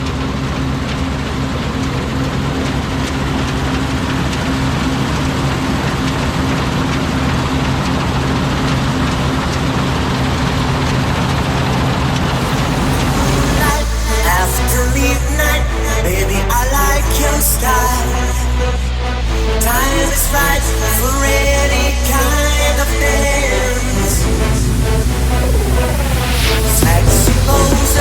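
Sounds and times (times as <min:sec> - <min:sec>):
combine harvester engine running: 0:00.0 - 0:28.0.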